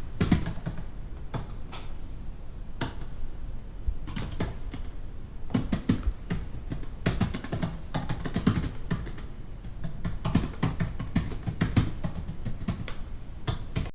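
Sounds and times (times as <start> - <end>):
distant keyboard typing: 0.2 - 1.6, 4.1 - 13.9.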